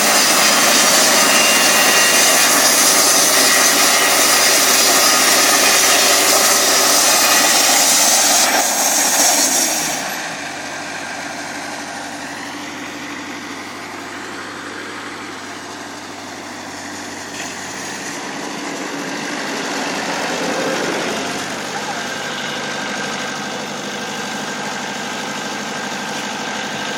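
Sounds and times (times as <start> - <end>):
sawmill cutting lumber: 0.0 - 26.9
sawmill engine idling: 0.0 - 26.9.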